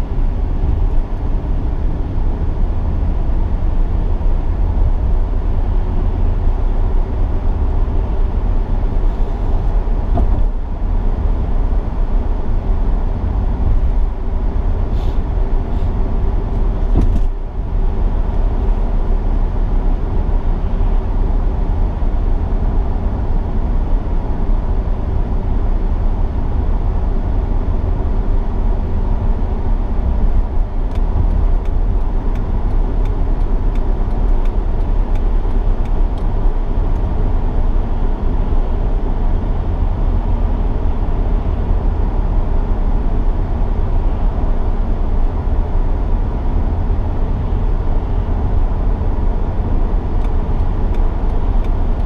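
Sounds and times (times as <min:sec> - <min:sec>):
road and engine noise in car: 0:00.0 - 0:52.0.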